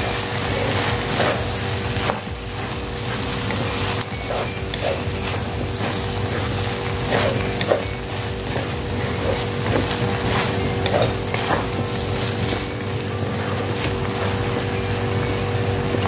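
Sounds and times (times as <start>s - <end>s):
frying sizzle: 0.0s - 16.0s
spatula scraping wok: 0.0s - 16.0s
steady hum: 0.0s - 16.0s.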